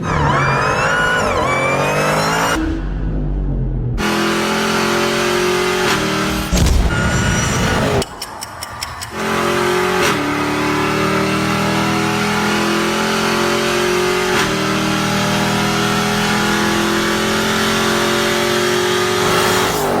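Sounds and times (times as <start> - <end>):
car engine revving high: 0.0 - 8.0, 9.1 - 20.0.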